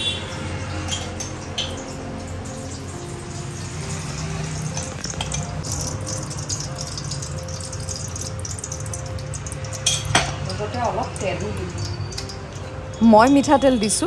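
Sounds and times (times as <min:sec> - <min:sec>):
oil sizzling in a pot: 0:00.0 - 0:14.0
metal spoon stirring in a pot: 0:00.4 - 0:13.2.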